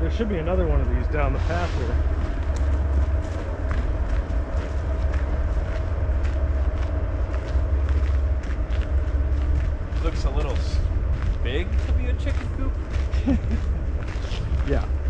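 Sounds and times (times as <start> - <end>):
passing train rumble: 0.0 - 15.0
steady hum: 0.0 - 15.0
footsteps on gravel: 2.0 - 15.0.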